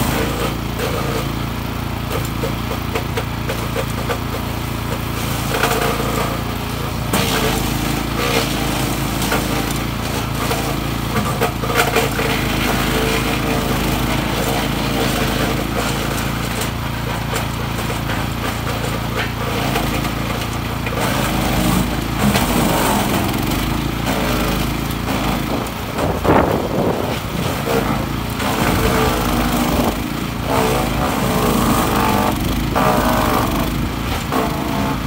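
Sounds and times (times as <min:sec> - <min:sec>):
wood chipper engine running: 0:00.0 - 0:35.0.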